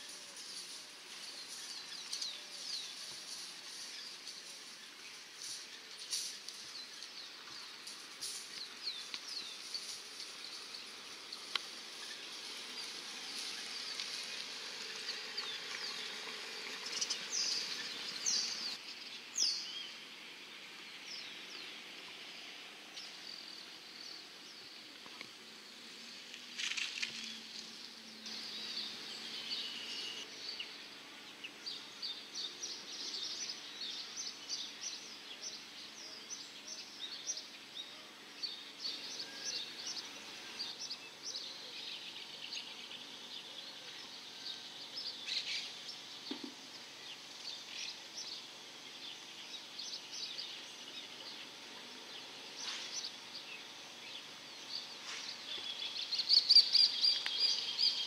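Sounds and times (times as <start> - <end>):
birds chirping: 0.0 - 25.6, 26.6 - 58.0
steady high hiss: 0.0 - 58.0.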